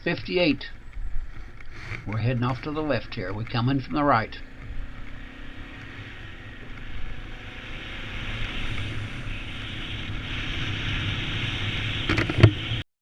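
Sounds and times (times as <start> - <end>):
motorcycle engine running: 0.0 - 12.8
wind rushing over microphone: 0.0 - 12.8.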